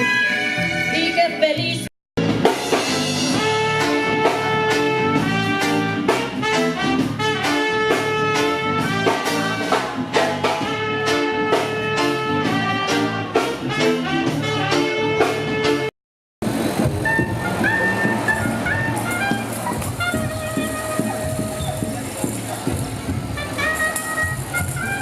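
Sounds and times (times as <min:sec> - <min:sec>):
brass instrumental music with beat: 0:00.0 - 0:25.0.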